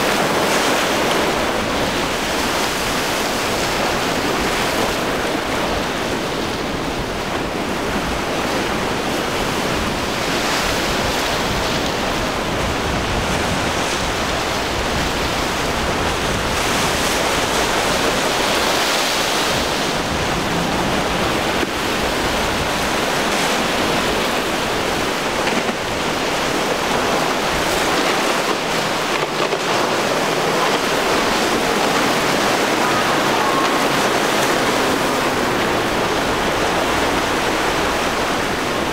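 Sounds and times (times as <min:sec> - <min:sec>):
waves and surf: 0:00.0 - 0:38.9
wind buffeting microphone: 0:00.0 - 0:38.9.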